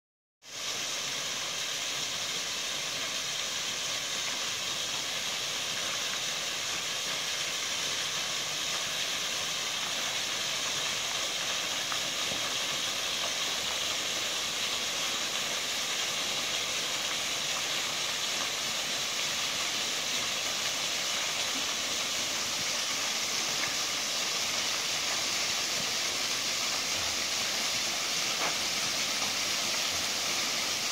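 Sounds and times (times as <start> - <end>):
small waterfall splashing on stones: 0.4 - 30.9.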